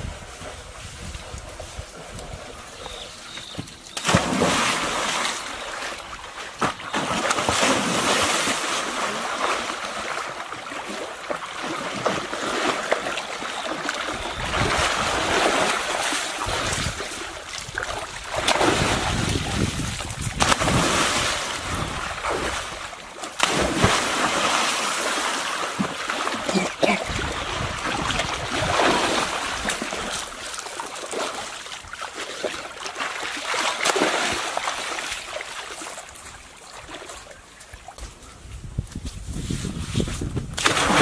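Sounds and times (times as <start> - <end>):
water splashing and sloshing: 0.0 - 41.0.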